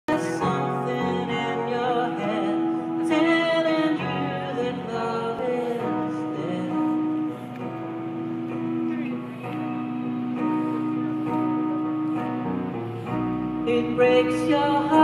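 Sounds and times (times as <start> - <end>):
acoustic guitar: 0.1 - 15.0
live band playing: 0.1 - 15.0.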